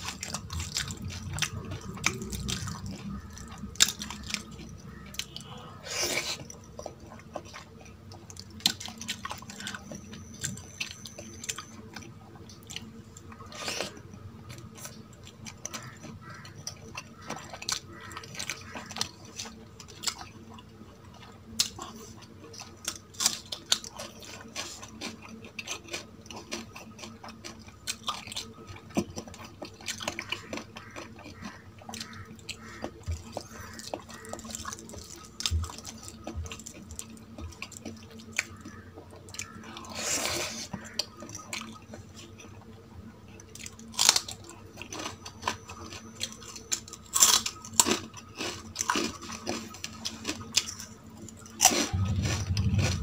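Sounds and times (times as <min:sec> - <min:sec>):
person chewing: 0:00.0 - 0:53.0.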